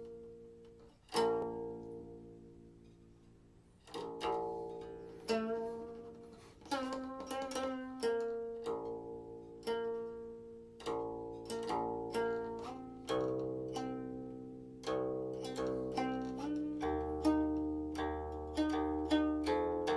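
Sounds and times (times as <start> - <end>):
plucked zither notes: 0.0 - 19.9.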